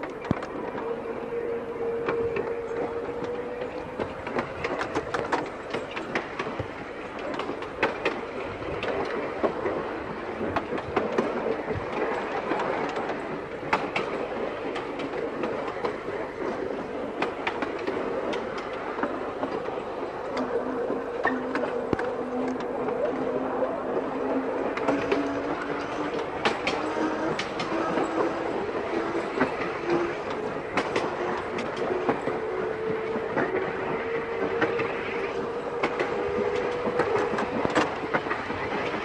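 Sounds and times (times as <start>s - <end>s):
electric tram running: 0.0s - 39.0s
wheels clicking over rail joints: 0.0s - 39.0s.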